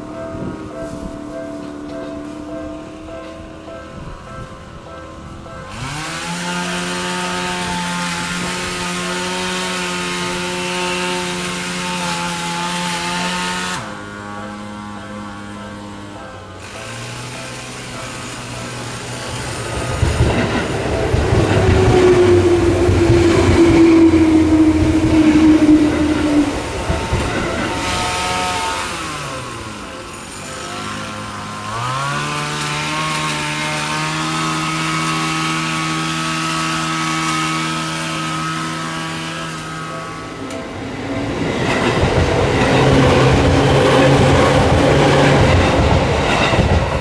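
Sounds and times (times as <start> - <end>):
train wheels rumbling: 0.0 - 47.0
train motor whine: 5.7 - 47.0.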